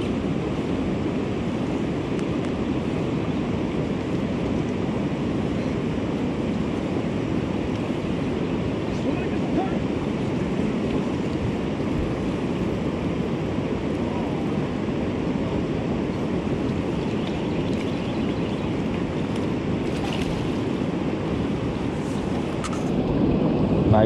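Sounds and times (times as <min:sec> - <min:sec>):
river rushing over rapids: 0:00.0 - 0:24.0
wind on microphone: 0:00.0 - 0:24.0.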